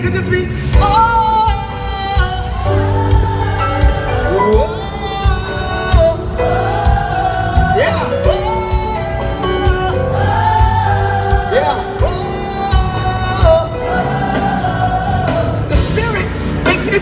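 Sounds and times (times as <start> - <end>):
band with bass and drums: 0.0 - 17.0
choir singing long notes: 2.2 - 16.0.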